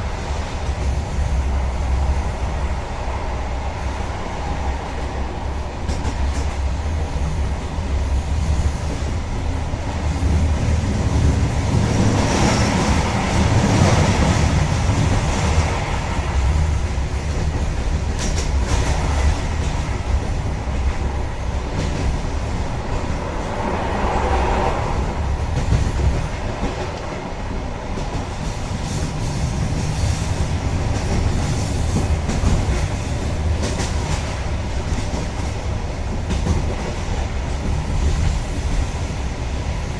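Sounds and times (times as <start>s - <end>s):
train deep rumble: 0.0s - 39.9s.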